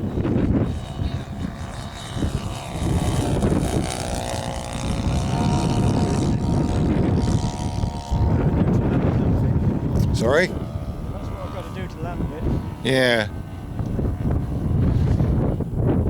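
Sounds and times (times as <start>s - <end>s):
model plane motor whine: 0.0s - 16.0s
wind buffeting microphone: 0.0s - 16.0s.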